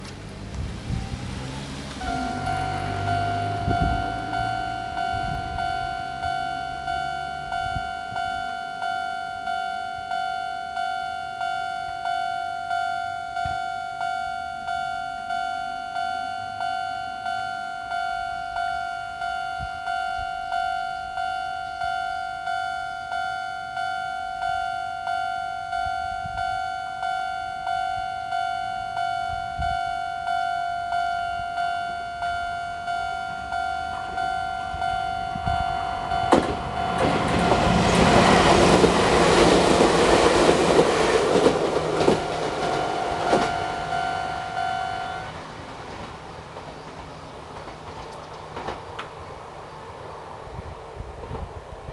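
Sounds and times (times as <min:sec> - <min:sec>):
level-crossing alarm two-note ringing: 0:02.0 - 0:45.4.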